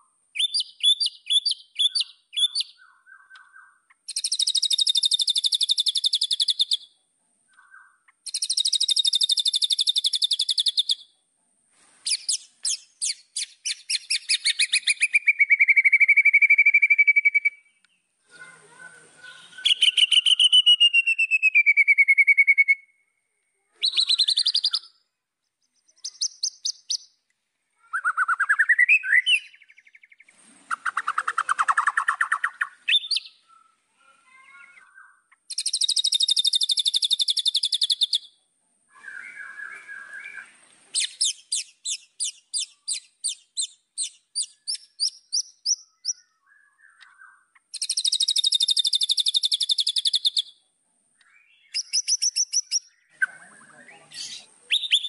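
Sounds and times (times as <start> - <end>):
bird singing whistles and trills: 0.4 - 6.9, 7.6 - 11.1, 12.1 - 17.8, 19.3 - 23.0, 23.8 - 25.0, 27.9 - 33.5, 34.7 - 38.3, 38.9 - 50.6, 51.2 - 55.0.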